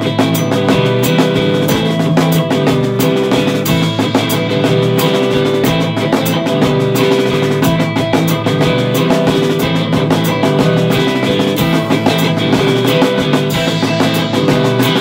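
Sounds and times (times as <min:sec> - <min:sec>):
drum kit beat: 0:00.0 - 0:15.0
guitar chords: 0:00.0 - 0:15.0
rock band playing: 0:00.0 - 0:15.0.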